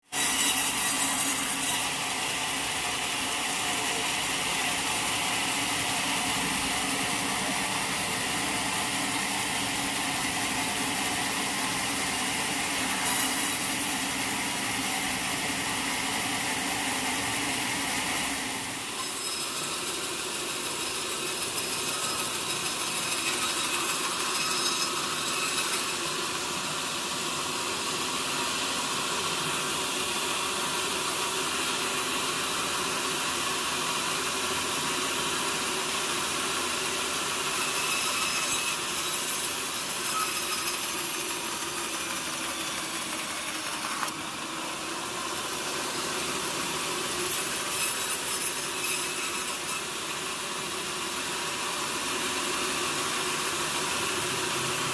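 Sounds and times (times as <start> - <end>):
sawmill saw cutting log: 0.0 - 54.9.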